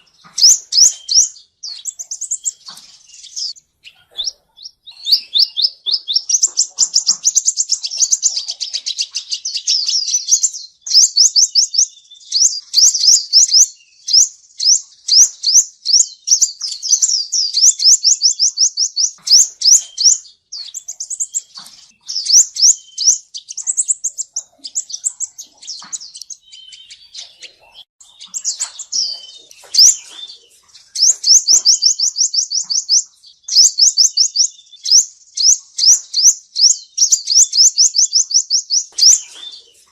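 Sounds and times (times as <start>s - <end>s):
sunbird singing high trills: 0.0s - 39.9s.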